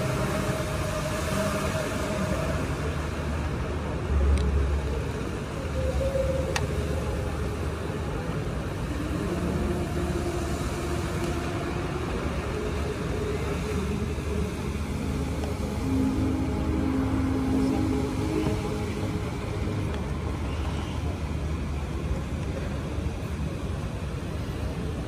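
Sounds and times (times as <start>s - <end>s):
fountain water jets spraying: 0.0s - 25.0s.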